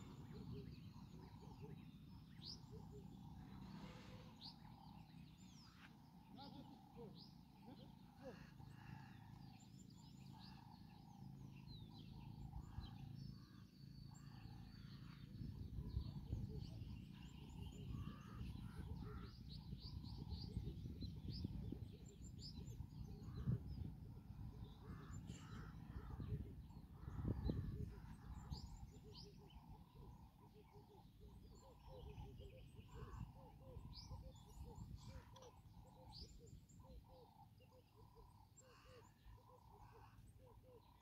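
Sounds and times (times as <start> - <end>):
birds chirping and calling: 0.0 - 41.0.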